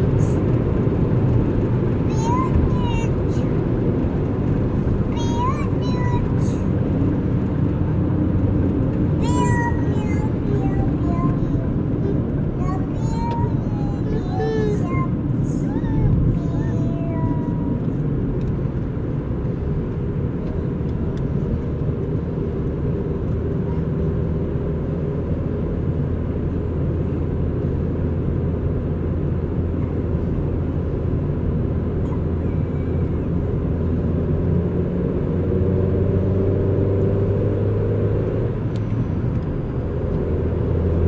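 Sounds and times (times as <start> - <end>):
vehicle engine and road noise: 0.0 - 41.0.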